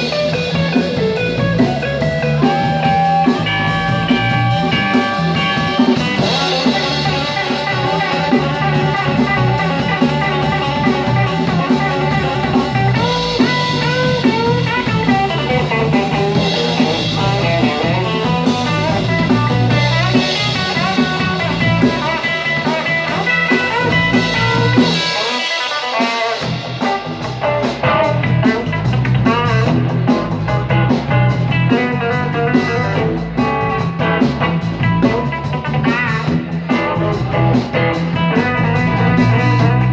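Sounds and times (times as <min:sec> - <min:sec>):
bass: 0:00.0 - 0:39.9
drum kit: 0:00.0 - 0:39.9
electric guitar bending notes: 0:00.0 - 0:39.9.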